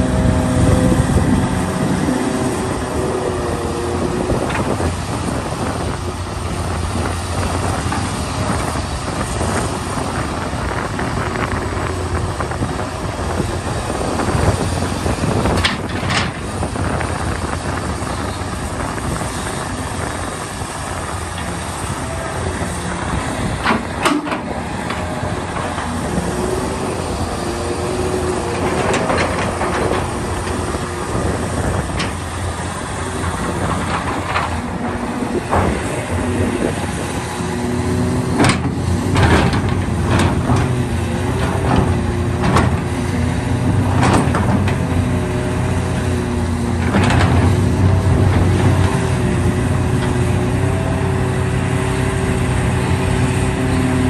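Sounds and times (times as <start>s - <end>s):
excavator diesel engine under load: 0.0s - 54.0s
excavator clanks and knocks: 0.1s - 54.0s.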